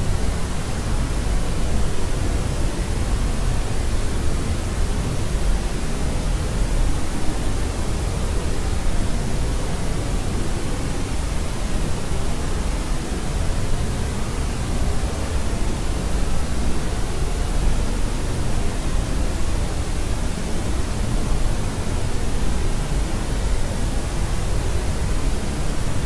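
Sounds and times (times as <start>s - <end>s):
steady white noise hiss: 0.0s - 26.0s.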